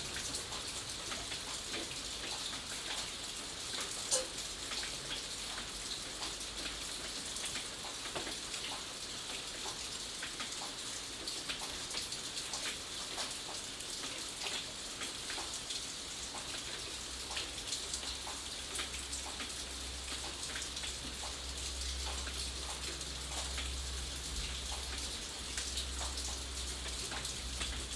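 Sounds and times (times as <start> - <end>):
raindrops ticking on surface: 0.0 - 27.9.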